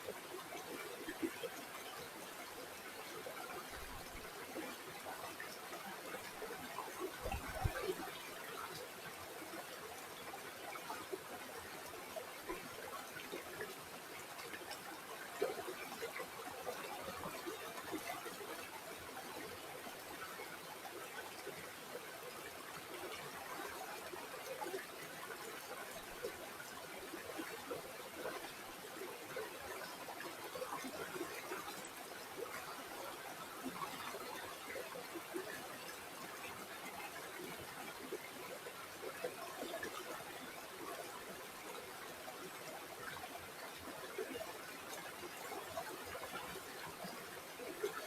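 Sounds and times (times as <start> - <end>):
river water babbling: 0.0 - 48.0.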